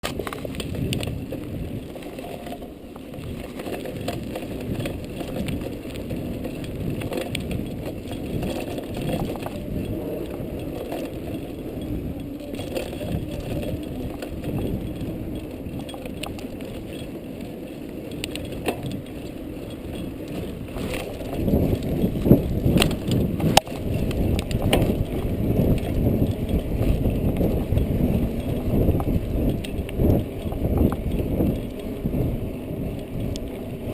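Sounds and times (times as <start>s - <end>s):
rattling ride over rough trail: 0.0s - 33.9s.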